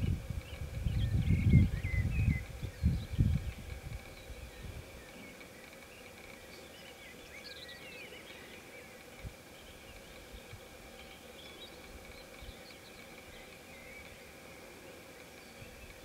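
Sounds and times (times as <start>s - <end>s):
distant birds chirping: 0.0s - 16.0s.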